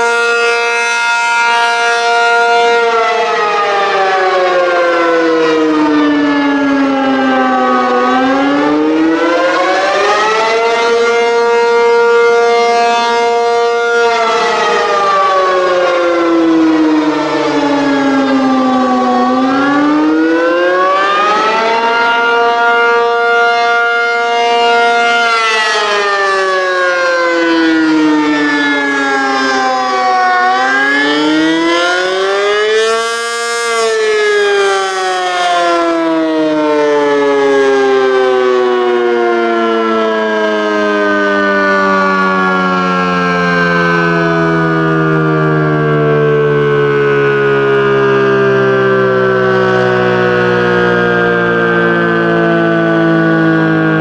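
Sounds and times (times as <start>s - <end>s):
tornado siren winding: 0.0s - 54.0s.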